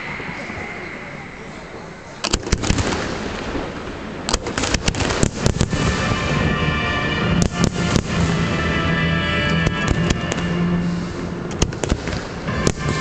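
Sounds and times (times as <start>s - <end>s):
fireworks rumble and hiss: 0.0s - 6.6s, 7.4s - 13.0s
fireworks bangs: 0.0s - 13.0s.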